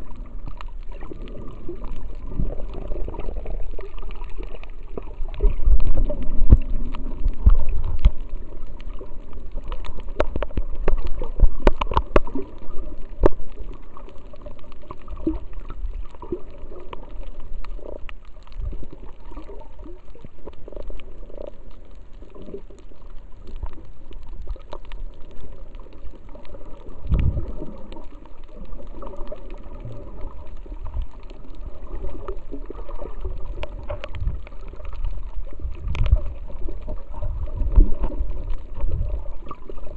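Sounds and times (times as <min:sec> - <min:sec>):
muffled underwater rush: 0:00.0 - 0:39.9
sharp underwater clicks: 0:00.0 - 0:39.9.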